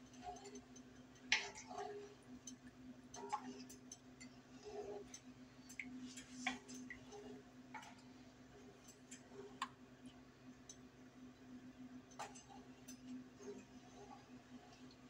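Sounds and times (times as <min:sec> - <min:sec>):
spatula clicking and scraping skillet: 0:00.0 - 0:09.8, 0:12.1 - 0:14.9.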